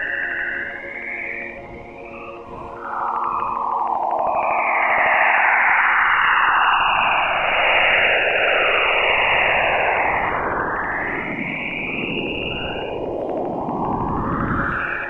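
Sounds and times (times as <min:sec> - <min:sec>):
hissing whistling noise with glides: 0:00.0 - 0:15.0.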